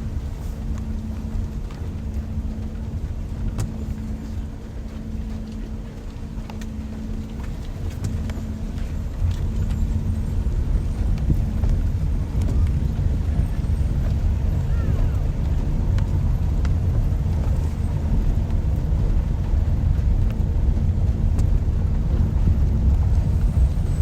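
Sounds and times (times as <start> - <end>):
faint steady hum: 0.0 - 24.0
heavy low rumble: 0.0 - 24.0
steady rain: 0.0 - 24.0.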